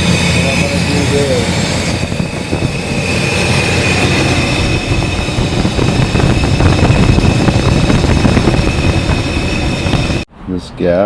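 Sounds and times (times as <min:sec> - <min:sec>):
car engine rumbling: 0:00.0 - 0:10.3
high engine whine: 0:00.0 - 0:10.6.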